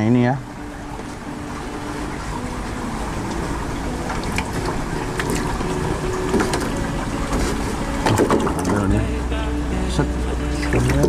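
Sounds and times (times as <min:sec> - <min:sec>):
aquarium water rushing and bubbling: 0:00.0 - 0:11.0.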